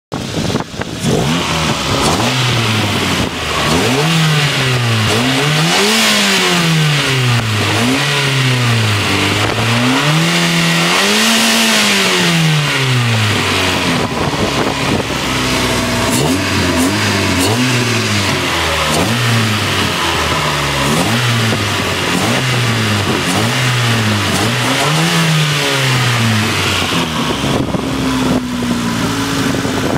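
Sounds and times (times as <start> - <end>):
car engine revving: 0.1 - 29.9.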